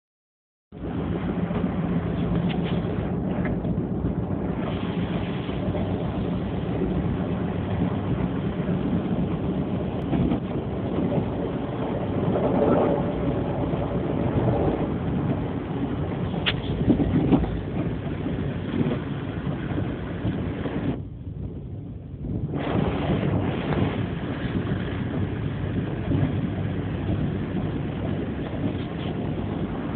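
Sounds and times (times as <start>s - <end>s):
boat engine rumble: 0.7s - 29.9s
wind buffeting microphone: 0.7s - 29.9s.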